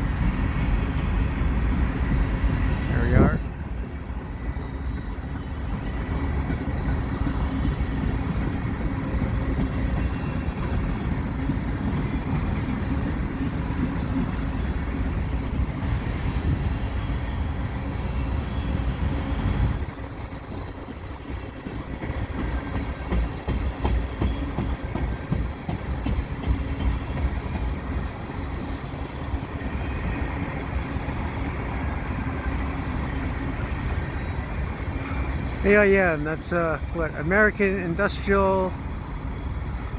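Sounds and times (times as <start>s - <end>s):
freight cars clacking: 0.0s - 39.9s
train wheels rumbling on rail: 0.0s - 39.9s.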